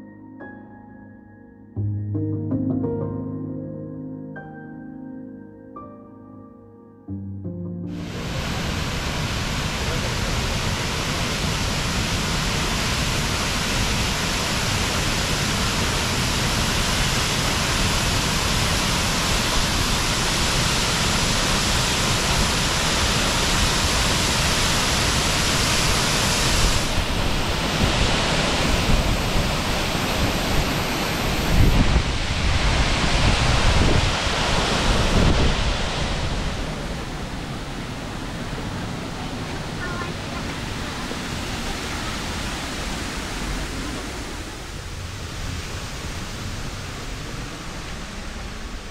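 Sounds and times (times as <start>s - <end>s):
waterfall rushing: 8.0s - 48.9s.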